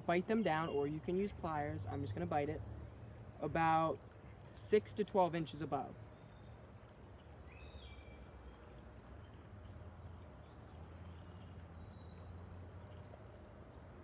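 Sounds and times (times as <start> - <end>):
faint low outdoor rumble: 0.0 - 14.0
small birds chirping: 0.1 - 14.0.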